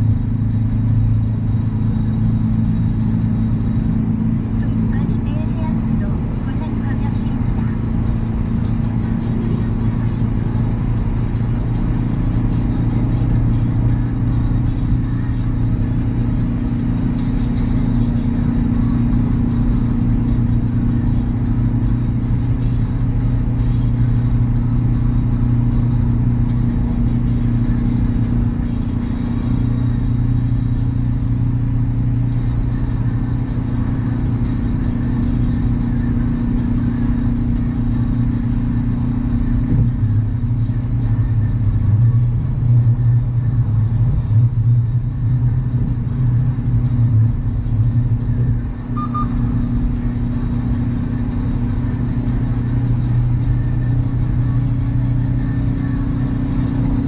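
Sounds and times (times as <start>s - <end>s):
car engine droning at cruising speed: 0.0s - 57.0s
road noise: 0.0s - 57.0s.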